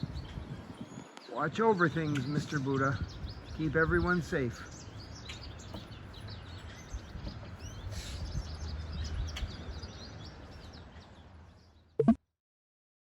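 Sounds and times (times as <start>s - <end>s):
wind rumble on microphone: 0.0s - 11.0s
small birds chirping: 0.0s - 12.2s.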